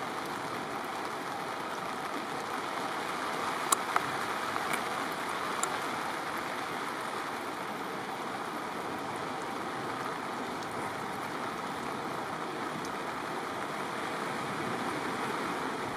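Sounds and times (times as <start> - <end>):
rough sea: 0.0 - 15.9
wind: 0.0 - 15.9.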